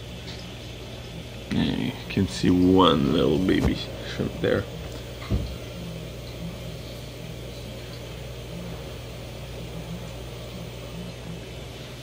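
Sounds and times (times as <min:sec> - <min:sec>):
aquarium equipment humming: 0:00.0 - 0:12.0.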